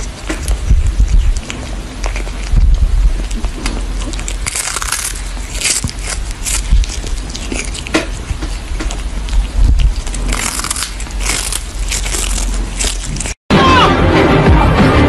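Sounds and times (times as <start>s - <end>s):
cat crunching on fish: 0.0s - 13.4s.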